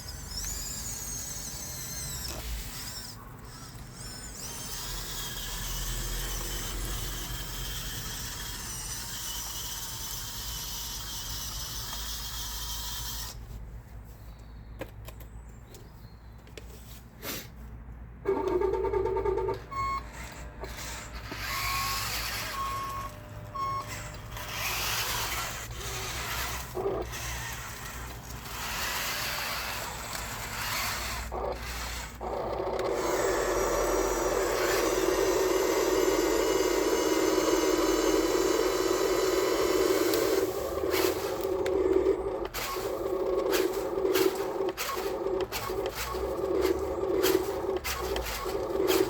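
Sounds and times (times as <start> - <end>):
electric motors whining: 0.0 - 13.5, 18.3 - 49.0.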